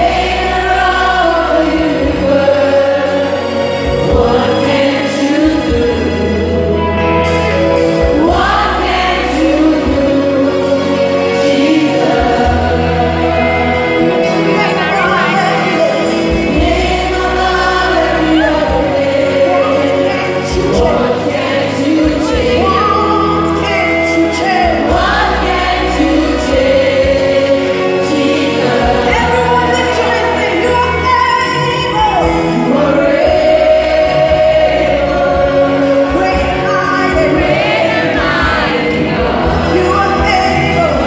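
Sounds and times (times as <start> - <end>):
group singing gospel music: 0.0 - 41.0
steady bass line: 0.0 - 41.0.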